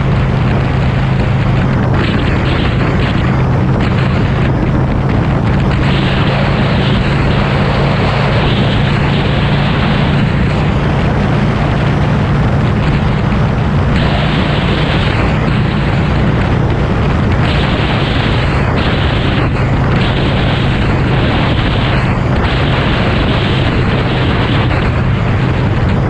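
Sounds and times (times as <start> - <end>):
motorcycle engine running: 0.0 - 26.0
wind rush on microphone: 0.0 - 26.0.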